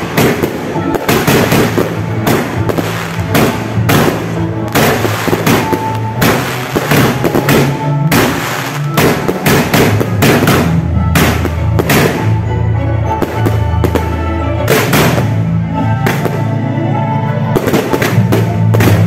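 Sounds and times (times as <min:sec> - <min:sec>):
fireworks bangs: 0:00.0 - 0:12.5, 0:13.1 - 0:16.6, 0:17.6 - 0:19.0
music playing: 0:00.0 - 0:19.0.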